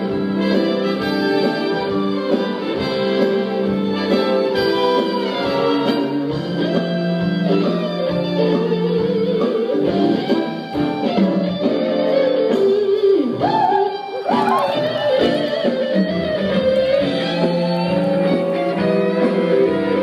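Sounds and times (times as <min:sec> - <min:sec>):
live instrumental band music: 0:00.0 - 0:20.0.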